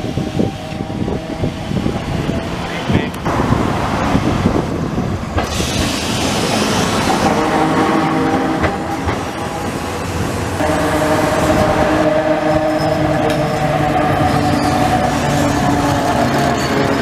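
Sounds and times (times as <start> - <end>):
tram approaching: 0.0 - 17.0
tram wheels rumbling on rails: 0.0 - 17.0.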